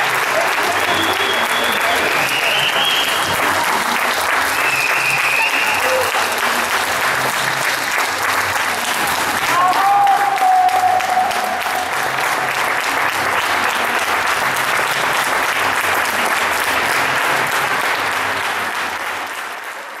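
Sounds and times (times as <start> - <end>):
crowd applauding: 0.0 - 20.0
high drawn-out cheer: 0.0 - 20.0.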